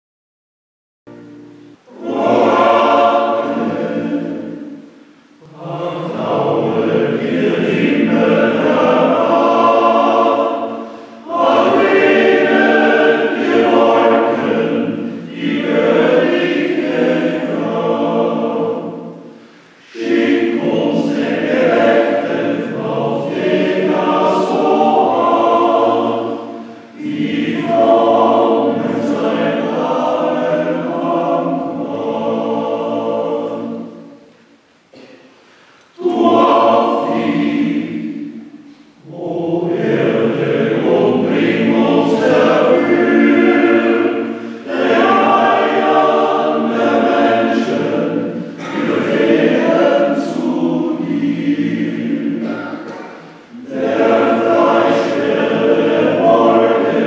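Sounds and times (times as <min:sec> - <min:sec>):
men's choir singing: 0:01.8 - 0:34.4, 0:35.0 - 0:57.0.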